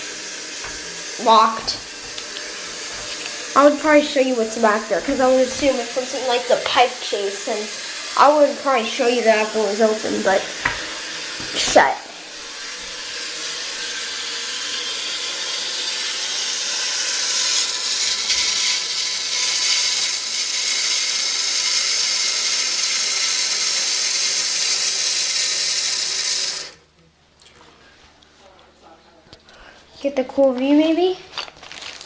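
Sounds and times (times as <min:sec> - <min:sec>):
toilet fill valve hissing: 0:00.0 - 0:26.8.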